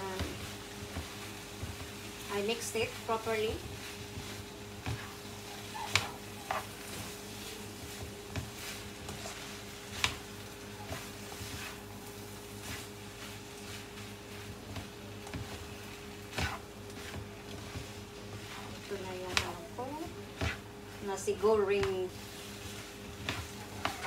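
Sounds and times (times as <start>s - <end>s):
steady low hum: 0.0s - 24.0s
spatula scraping frying pan: 2.5s - 19.6s, 20.2s - 24.0s.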